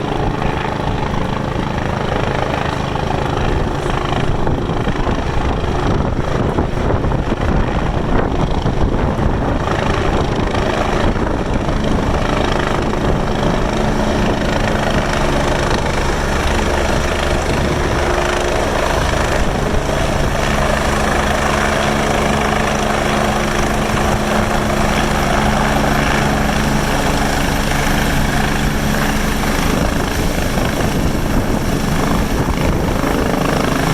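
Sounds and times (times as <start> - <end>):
helicopter engine and rotor whir: 0.0 - 33.9.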